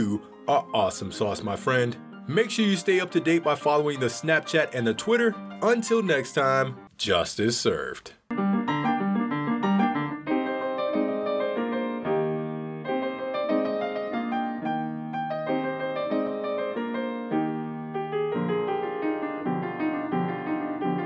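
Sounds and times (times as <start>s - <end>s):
piano playing a melody: 0.0s - 6.9s, 8.3s - 21.0s.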